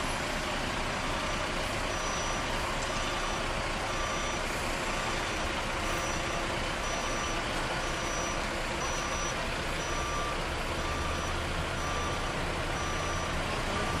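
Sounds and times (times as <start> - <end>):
diesel engine running: 0.0 - 14.0
truck reversing alarm beeping: 0.0 - 14.0.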